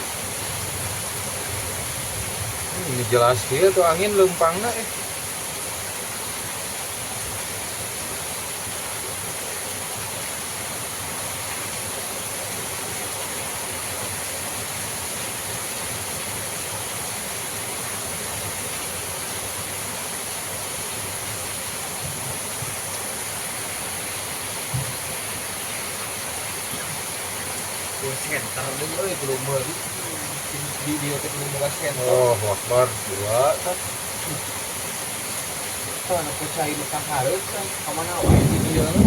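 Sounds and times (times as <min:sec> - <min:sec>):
wind rushing through pine trees: 0:00.0 - 0:39.0.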